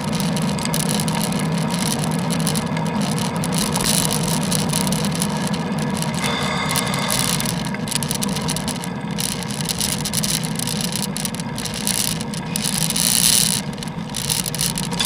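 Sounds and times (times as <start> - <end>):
bicycle rattle: 0.0 - 15.0.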